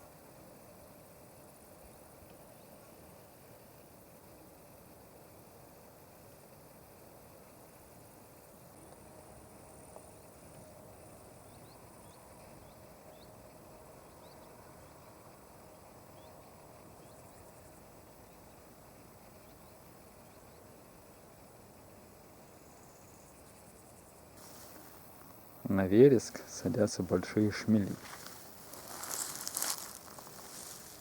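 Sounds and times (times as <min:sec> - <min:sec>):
insect chirring: 0:00.0 - 0:31.0
quiet steady hiss: 0:00.0 - 0:31.0.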